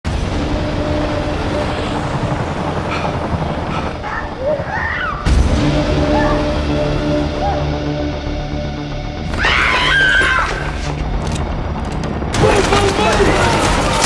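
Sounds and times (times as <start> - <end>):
helicopter rumbling overhead: 0.1 - 9.2, 10.7 - 14.0.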